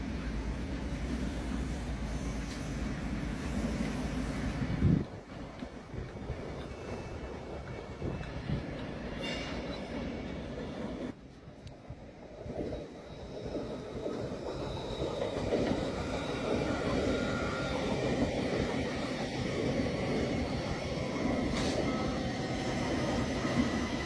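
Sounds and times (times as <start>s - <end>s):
train wheels rumbling: 0.0s - 24.0s
thin whine of wheels on rails: 0.2s - 24.0s.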